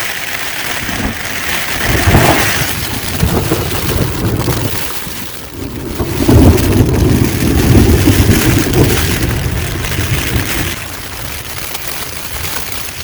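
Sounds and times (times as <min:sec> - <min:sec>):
gusting wind: 0:00.0 - 0:13.0
heavy rain on a tent: 0:00.0 - 0:13.0.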